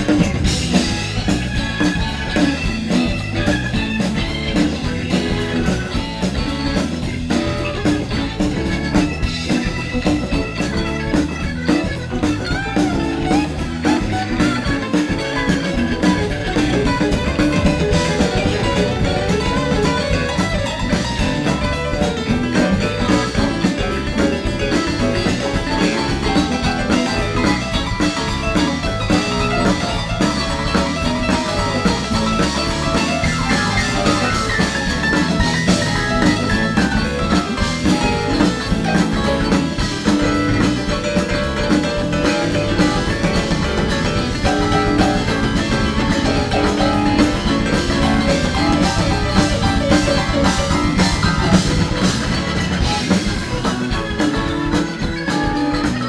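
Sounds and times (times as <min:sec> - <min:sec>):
drum kit: 0:00.0 - 0:56.0
electric guitars: 0:00.0 - 0:56.0
keyboards: 0:00.0 - 0:56.0.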